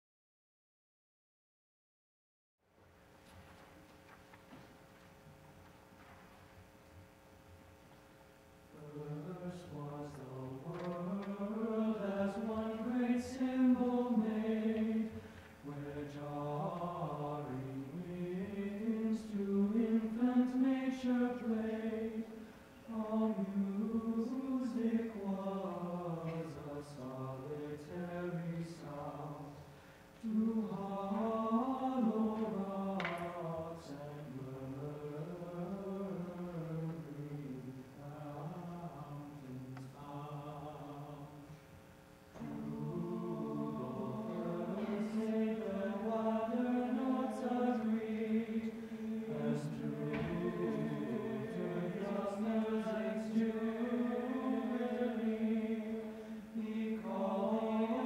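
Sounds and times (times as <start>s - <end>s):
choir singing a requiem: 8.7s - 41.6s, 42.3s - 58.0s.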